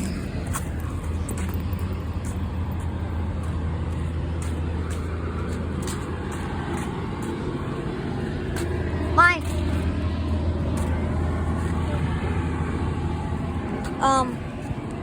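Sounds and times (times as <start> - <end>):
hvac equipment humming: 0.0 - 15.0.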